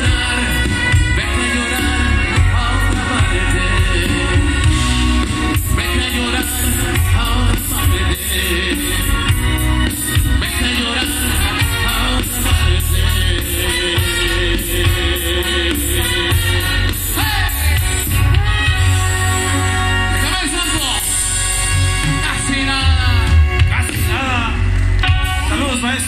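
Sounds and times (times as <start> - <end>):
bass: 0.0 - 26.0
drum kit: 0.0 - 26.0
electric guitars: 0.0 - 26.0
latin percussion: 0.0 - 26.0
lead singer: 0.0 - 26.0
saxophone: 0.0 - 26.0.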